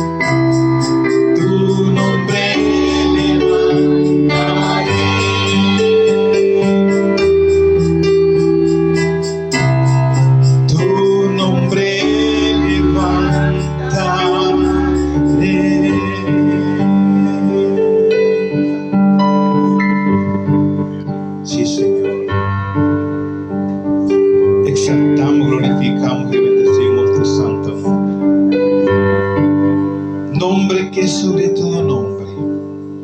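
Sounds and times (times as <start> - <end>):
electric keyboard chords: 0.0 - 33.0.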